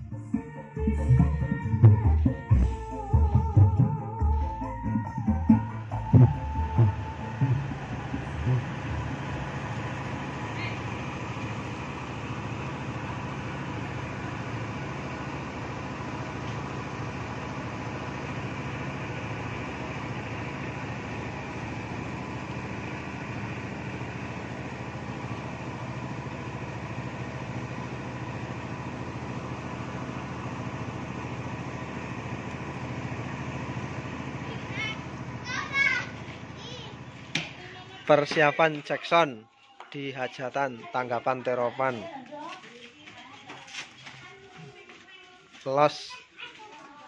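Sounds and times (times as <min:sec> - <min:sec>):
engine idling: 0:00.0 - 0:39.1.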